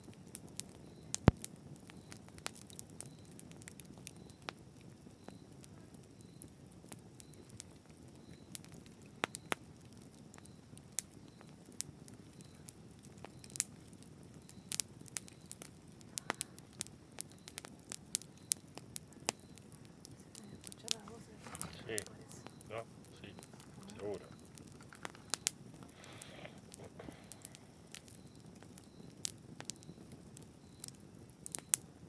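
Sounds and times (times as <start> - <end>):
burning wood crackles and pops: 0.0 - 32.0
low rumble of flames: 0.0 - 32.0.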